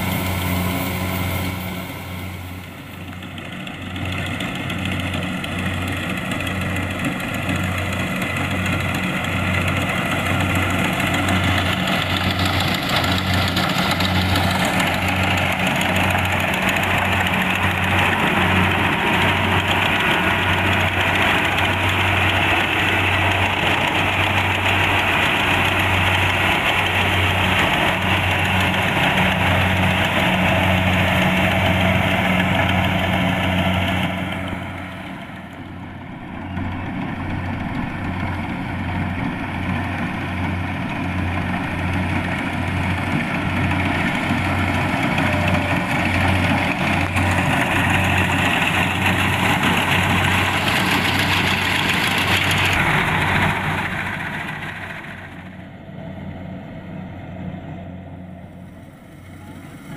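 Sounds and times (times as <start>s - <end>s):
combine harvester engine running: 0.0s - 59.9s
low machinery throb: 0.0s - 59.9s.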